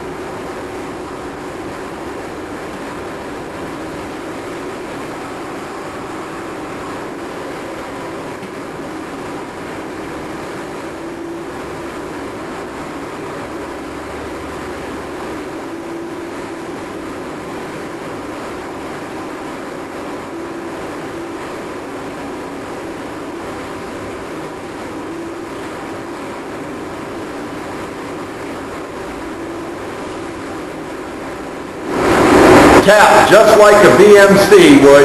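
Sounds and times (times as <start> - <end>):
milling machine running: 0.0 - 35.0.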